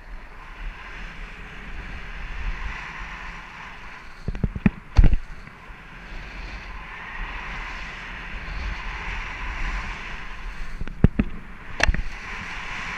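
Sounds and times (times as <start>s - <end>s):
snowboard scraping on snow: 0.0s - 12.9s
wind on microphone: 0.0s - 12.9s.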